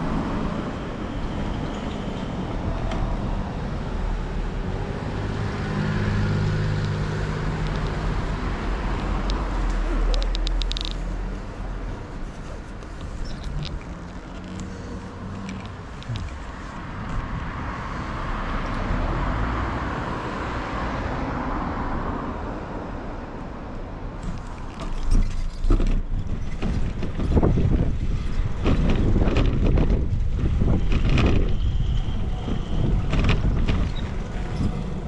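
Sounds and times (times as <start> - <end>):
wind buffeting microphone: 0.0 - 18.6, 24.2 - 35.0
bicycle rolling rumble: 0.0 - 18.8, 24.2 - 35.0.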